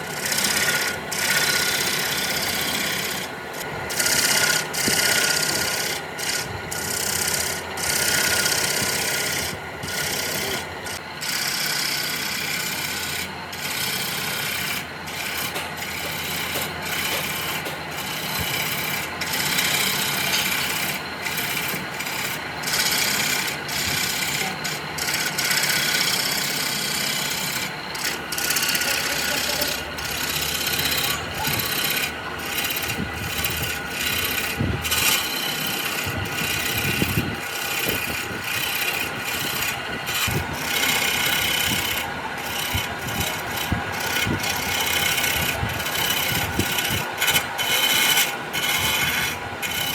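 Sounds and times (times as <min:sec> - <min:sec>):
rough scraping of wood: 0:00.0 - 0:11.0, 0:13.1 - 0:49.9.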